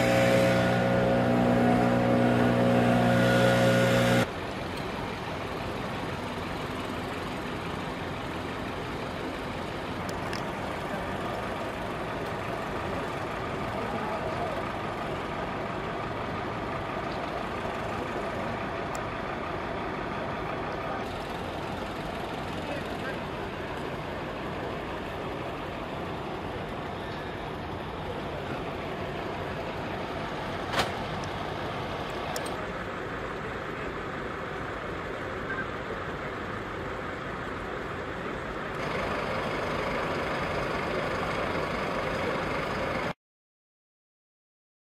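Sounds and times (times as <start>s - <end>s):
vehicle engine idling: 0.0s - 43.1s.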